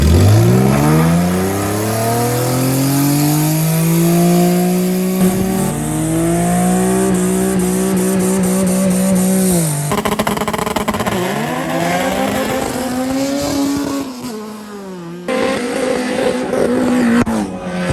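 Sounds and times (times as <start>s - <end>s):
car engine accelerating hard: 0.0s - 17.9s.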